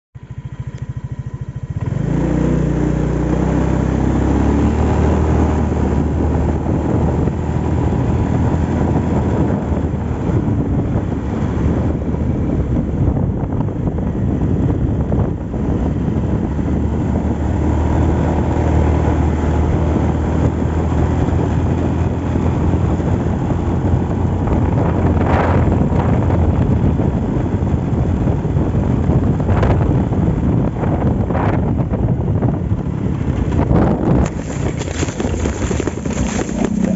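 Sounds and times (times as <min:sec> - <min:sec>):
vehicle engine running: 0:00.2 - 0:36.9.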